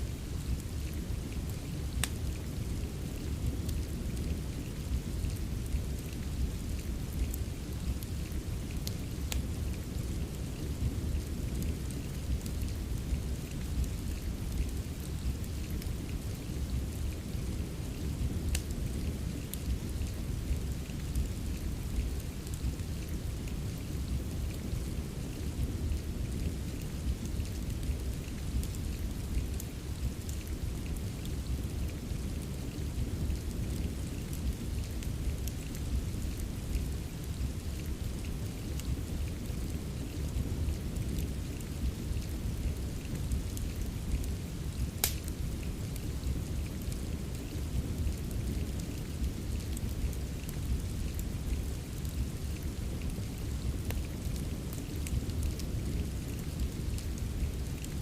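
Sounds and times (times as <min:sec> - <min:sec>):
fire crackling: 0:00.0 - 0:58.0
steady rain: 0:00.0 - 0:58.0.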